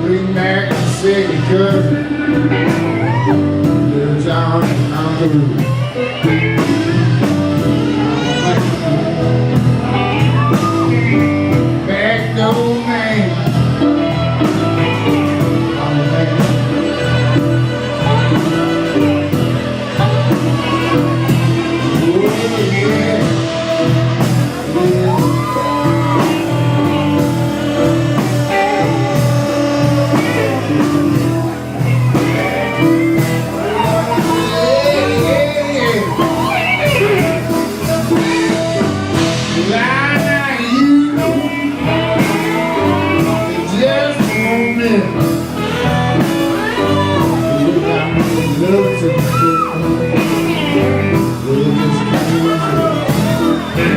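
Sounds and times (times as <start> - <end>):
guitar: 0.0 - 53.9
person singing: 0.0 - 53.9
steady beat: 0.0 - 53.9.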